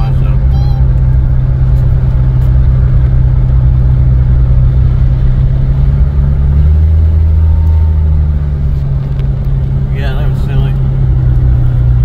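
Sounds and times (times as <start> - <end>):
loud engine exhaust drone: 0.0 - 12.0.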